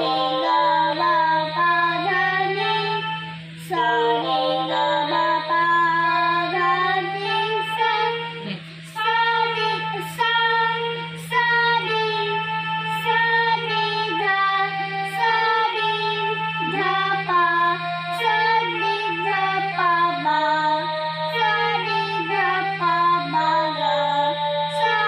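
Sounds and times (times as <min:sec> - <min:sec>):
child singing: 0:00.0 - 0:25.0
steady low hum: 0:00.0 - 0:25.0
toy electronic keyboard melody: 0:00.0 - 0:25.0.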